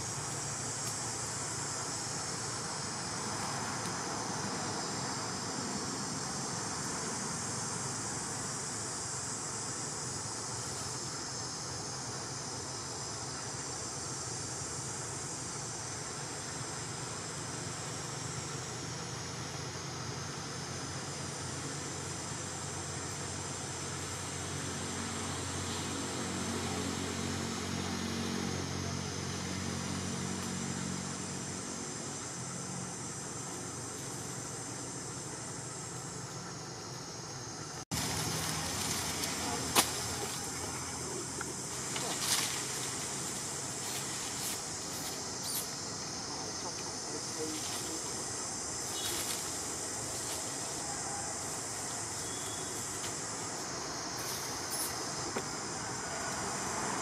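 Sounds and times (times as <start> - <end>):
high insect drone: 0.0 - 57.0
low engine-like hum: 0.0 - 57.0.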